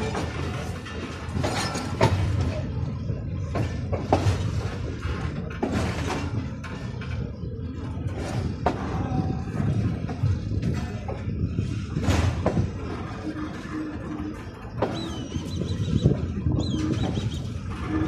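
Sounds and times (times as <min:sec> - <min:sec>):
metallic clanks of wheels: 0:00.0 - 0:18.0
train rumbling slowly: 0:00.0 - 0:18.0.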